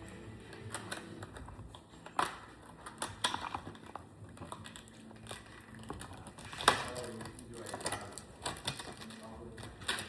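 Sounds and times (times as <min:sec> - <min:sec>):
model car and packaging handled: 0:00.0 - 0:10.0.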